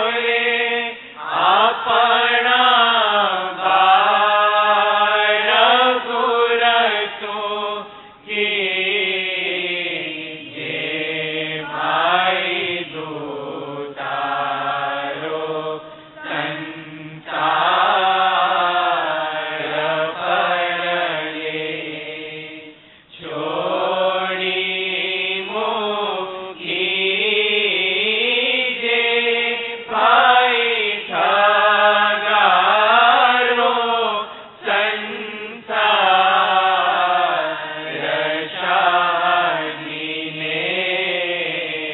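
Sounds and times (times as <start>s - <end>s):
person chanting a devotional melody: 0.0s - 41.9s.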